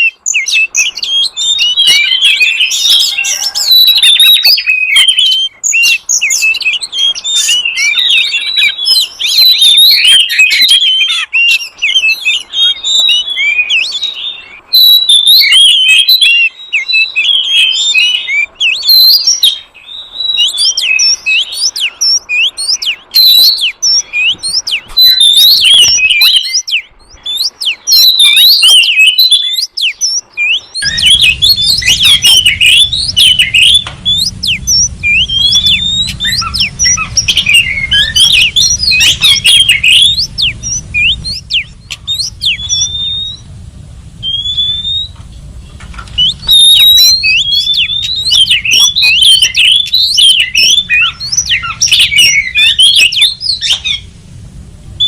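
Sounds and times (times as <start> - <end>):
magpie-robin singing: 0.0 - 54.1.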